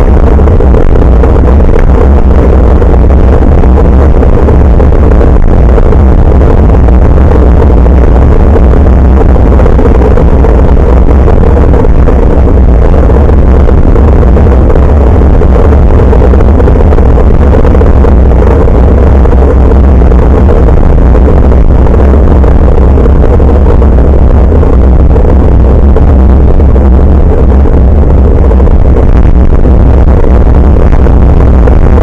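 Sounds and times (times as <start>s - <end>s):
bicycle road vibration: 0.0s - 32.0s
wind rumble on microphone: 0.0s - 32.0s.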